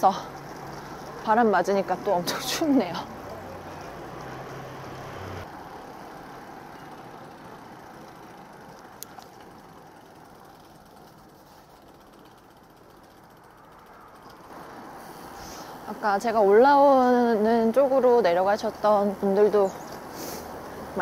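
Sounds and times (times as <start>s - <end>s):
wind and road noise from bike: 0.0s - 21.0s.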